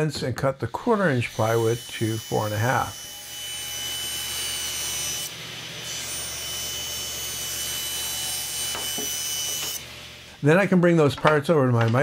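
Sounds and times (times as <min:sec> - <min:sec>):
table saw cutting plywood: 0:00.0 - 0:11.4.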